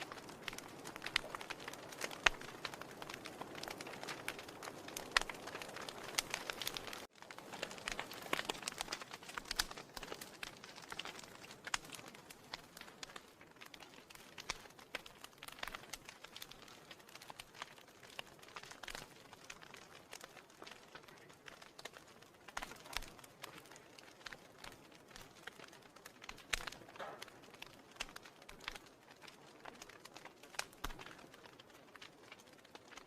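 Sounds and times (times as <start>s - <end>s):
firewood crackling and popping: 0.0s - 33.0s.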